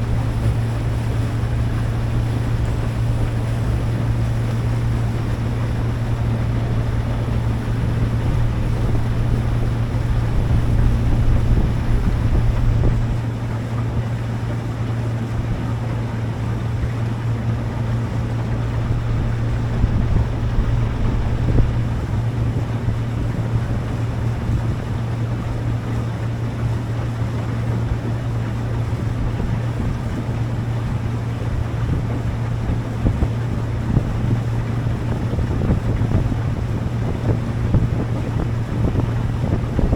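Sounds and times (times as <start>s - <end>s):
motorboat engine drone: 0.0s - 39.9s
water rushing along hull: 0.0s - 39.9s
wind buffeting microphone: 0.0s - 39.9s.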